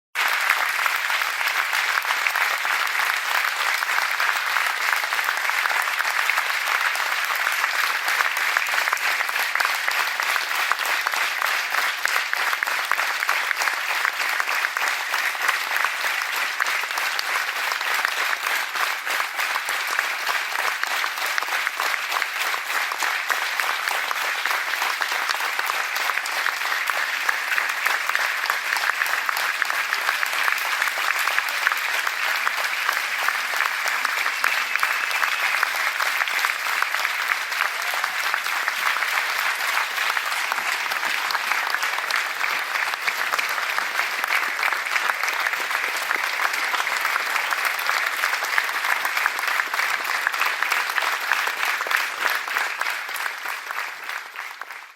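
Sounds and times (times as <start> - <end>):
crowd applauding: 0.2 - 54.9.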